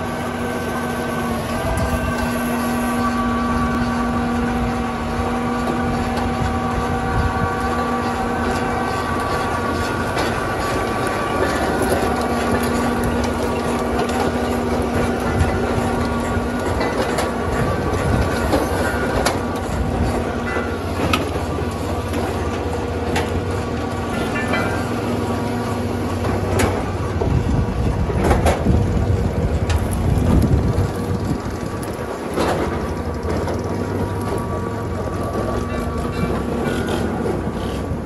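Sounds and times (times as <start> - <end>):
drive hum: 0.0 - 38.0
harvester rattling and clattering: 0.0 - 38.0.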